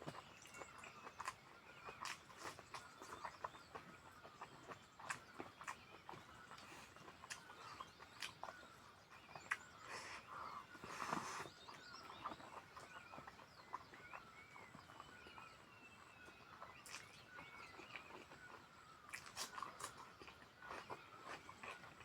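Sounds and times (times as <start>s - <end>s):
crunch: 0.0s - 15.2s, 16.2s - 22.0s
chewing and lip smacks: 0.0s - 22.0s.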